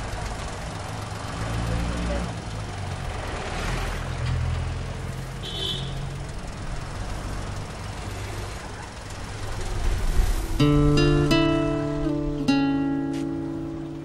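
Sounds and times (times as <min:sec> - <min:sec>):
engine idling: 0:00.0 - 0:12.7.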